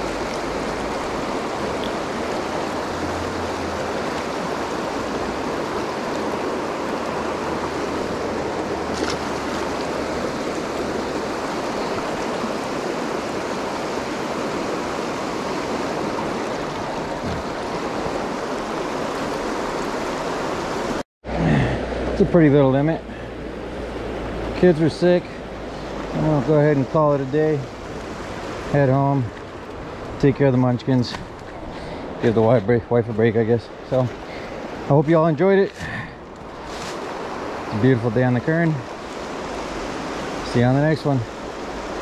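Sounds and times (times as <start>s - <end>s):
river water rushing over boulders: 0.0s - 42.0s.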